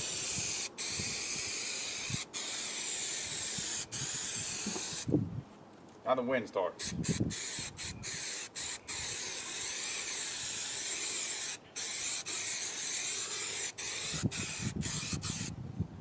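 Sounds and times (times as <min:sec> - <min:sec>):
aerosol can spraying: 0:00.0 - 0:05.1, 0:06.8 - 0:15.5.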